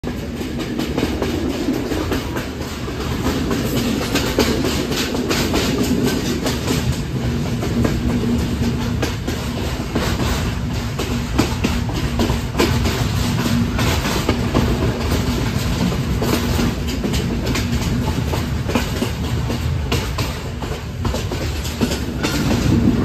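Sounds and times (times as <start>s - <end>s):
train rumble: 0.0s - 23.0s
wheels clattering over rails: 0.0s - 23.0s.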